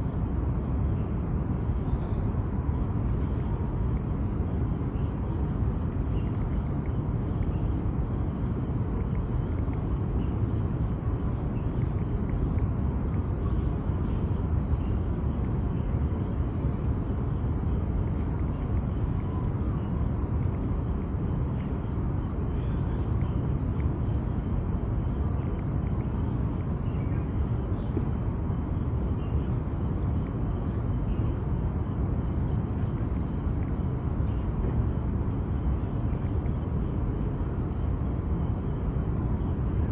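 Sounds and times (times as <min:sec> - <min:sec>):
insects chirring: 0:00.0 - 0:39.9
low rumbling background noise: 0:00.0 - 0:39.9.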